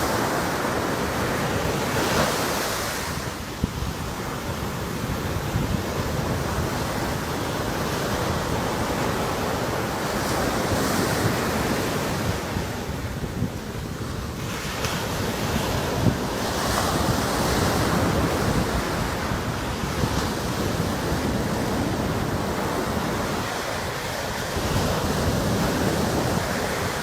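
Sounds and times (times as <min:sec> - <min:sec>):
sea surf washing in: 0:00.0 - 0:27.0
wind noise on microphone: 0:00.0 - 0:27.0.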